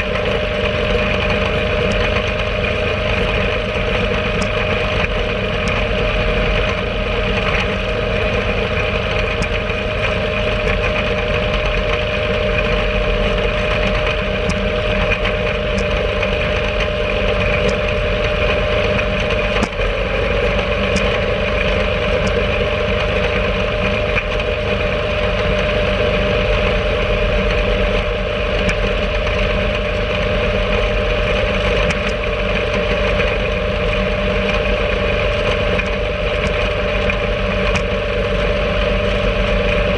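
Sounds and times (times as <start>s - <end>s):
light clicks of rail cart: 0.0s - 24.5s, 27.4s - 39.9s
small engine running: 0.0s - 39.9s.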